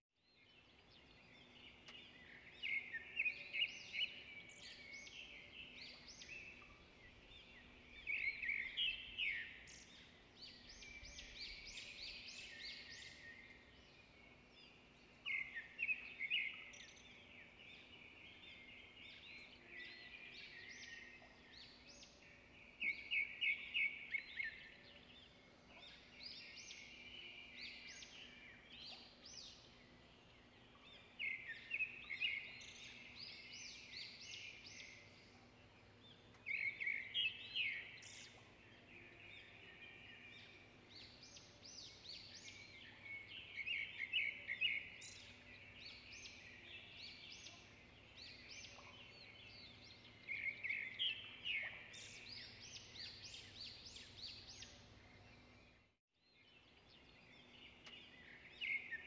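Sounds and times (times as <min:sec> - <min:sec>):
birds chirping: 0:00.3 - 0:59.0.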